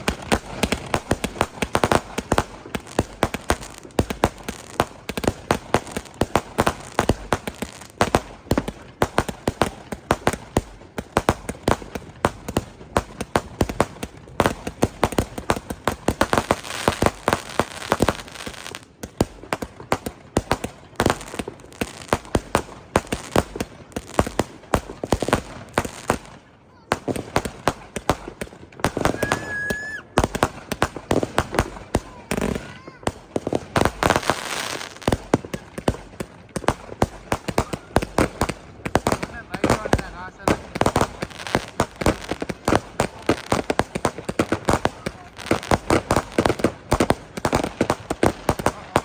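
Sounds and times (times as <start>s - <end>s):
fireworks and firecrackers banging: 0.0s - 49.0s.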